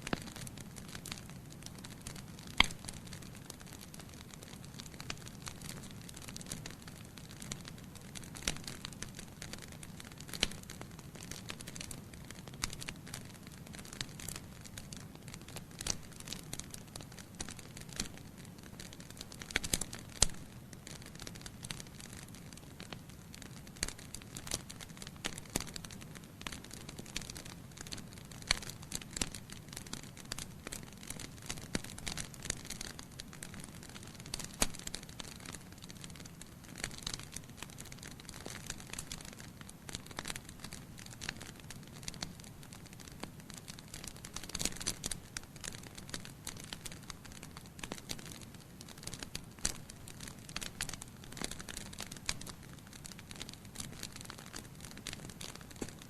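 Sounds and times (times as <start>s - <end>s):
burning logs crackling: 0.0s - 56.0s.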